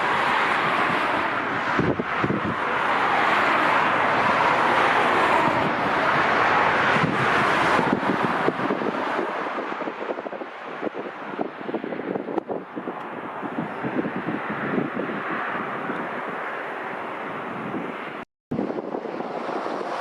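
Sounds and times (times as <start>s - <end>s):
jet engines rushing: 0.0s - 20.0s
wind buffeting microphone: 0.0s - 20.0s.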